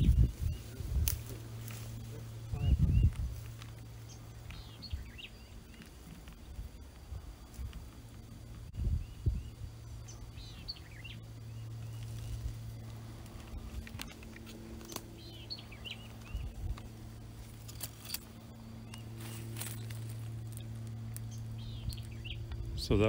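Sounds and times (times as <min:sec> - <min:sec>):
footsteps snapping twigs in brush: 0:00.0 - 0:08.6, 0:10.7 - 0:22.7
low hum: 0:00.0 - 0:23.0
small birds chirping: 0:00.0 - 0:23.0.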